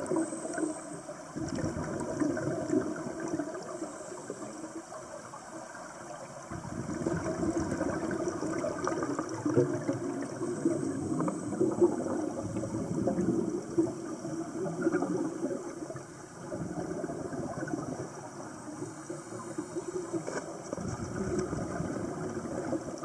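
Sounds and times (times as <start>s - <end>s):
underwater rushing and bubbling: 0.0s - 23.0s.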